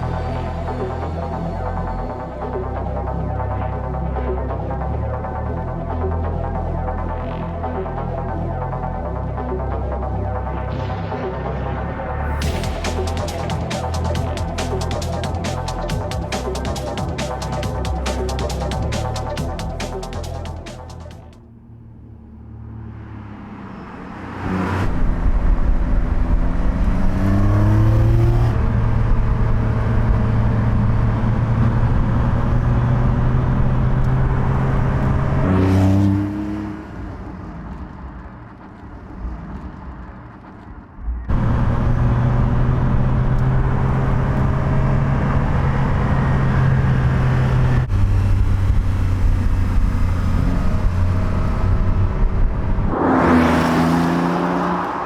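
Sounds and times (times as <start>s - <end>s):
car engine and exhaust accelerating: 0.0s - 55.0s.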